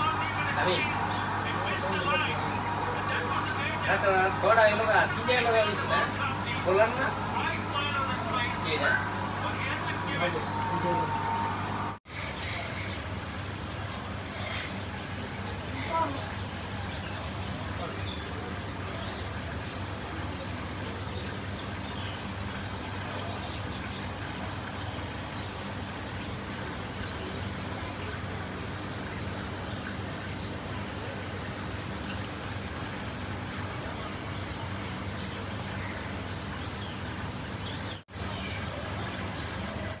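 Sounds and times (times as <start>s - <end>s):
pumps humming: 0.0s - 40.0s
water trickling: 0.0s - 40.0s.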